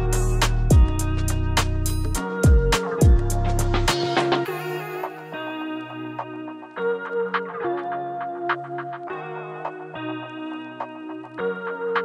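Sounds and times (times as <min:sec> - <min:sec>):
background music held chords: 0:00.0 - 0:12.0.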